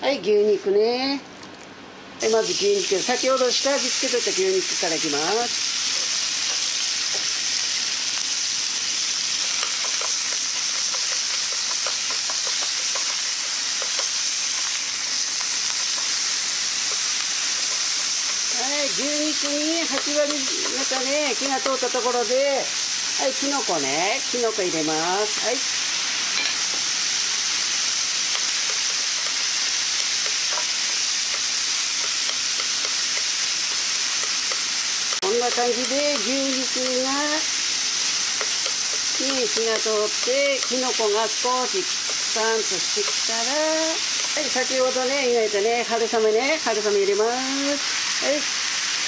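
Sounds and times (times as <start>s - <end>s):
meat sizzling in frying pan: 2.2s - 49.0s.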